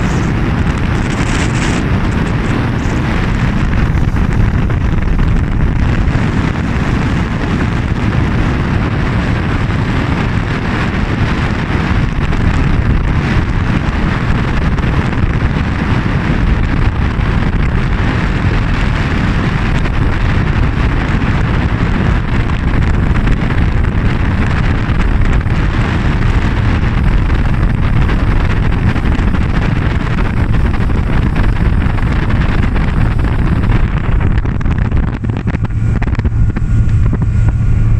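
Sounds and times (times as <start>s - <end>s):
small boat motor running: 0.0s - 37.9s
wind buffeting microphone: 0.0s - 37.9s.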